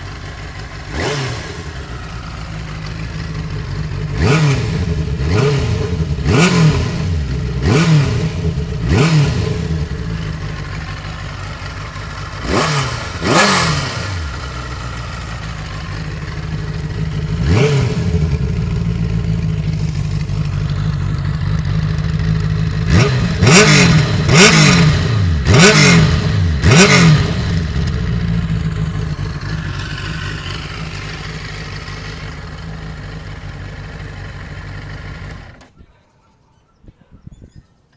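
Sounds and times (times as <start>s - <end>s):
motorcycle engine idling and revving: 0.0s - 35.8s.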